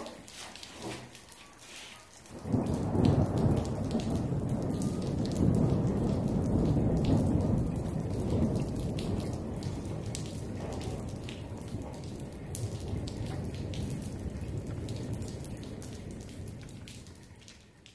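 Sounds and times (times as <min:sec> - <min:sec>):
light rain: 0:00.0 - 0:17.9
thunder rolling: 0:02.3 - 0:17.9.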